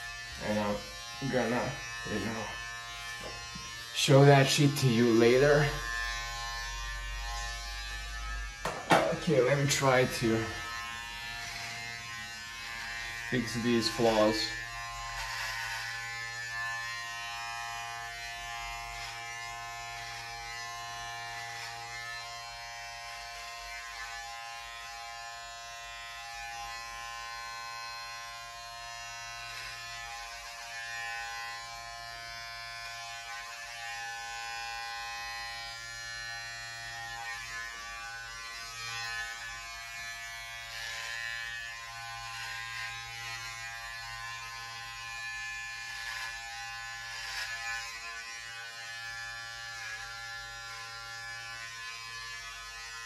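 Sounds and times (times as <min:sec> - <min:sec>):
electric hair clippers buzzing: 0:00.0 - 0:53.0.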